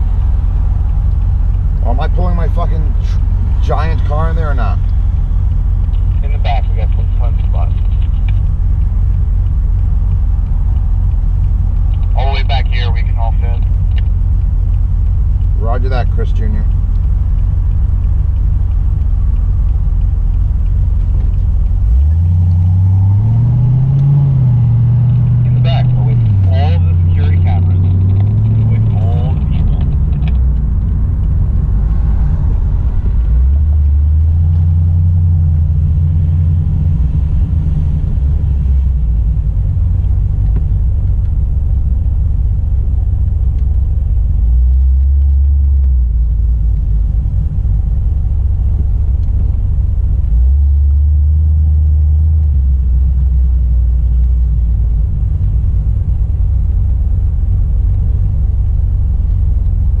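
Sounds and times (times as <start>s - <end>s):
car engine rumbling: 0.0s - 60.0s.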